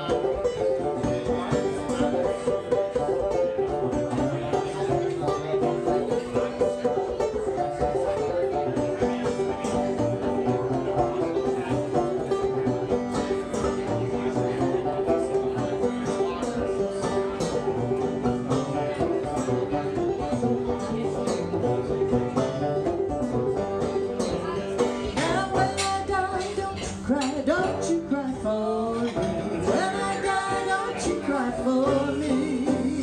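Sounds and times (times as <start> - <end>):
banjos playing plucked notes: 0.0 - 33.0.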